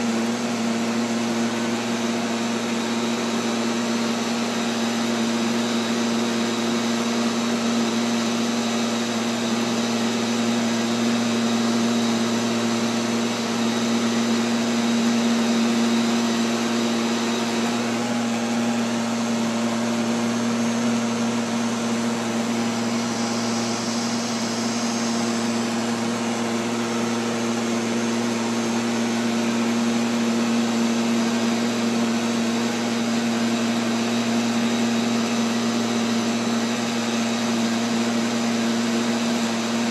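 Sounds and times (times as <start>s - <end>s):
robotic vacuum motor hum: 0.0s - 39.9s.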